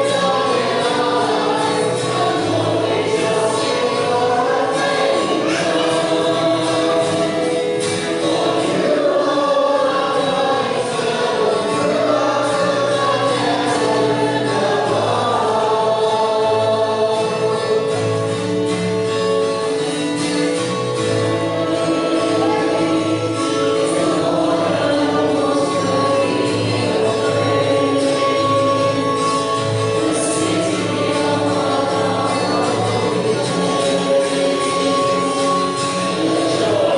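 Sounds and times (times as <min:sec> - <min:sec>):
choir singing worship song: 0:00.0 - 0:36.9
instrumental accompaniment with bass: 0:00.0 - 0:36.9.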